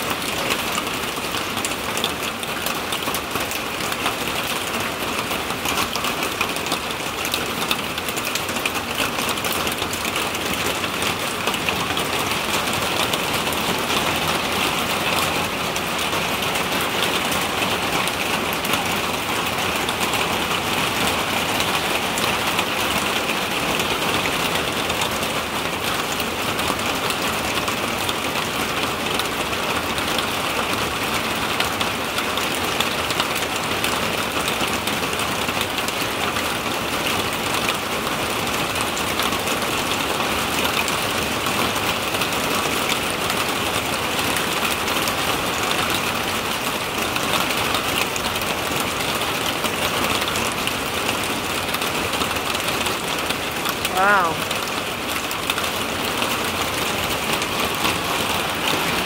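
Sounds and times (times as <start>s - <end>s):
rain and hail on a corrugated roof: 0.0s - 59.0s.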